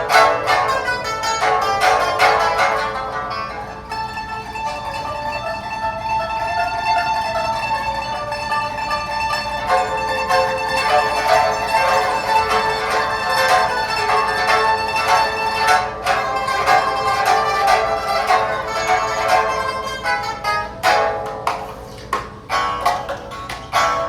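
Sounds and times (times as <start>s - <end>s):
pipa melody: 0.0s - 24.0s.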